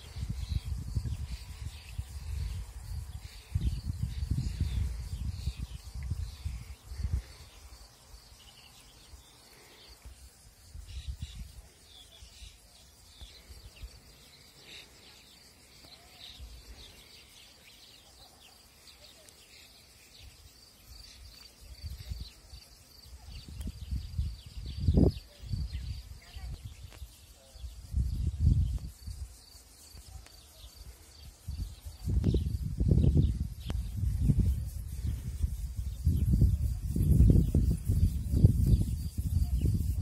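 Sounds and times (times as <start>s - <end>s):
high insect trill: 0.0s - 40.0s
small birds chirping: 0.0s - 40.0s.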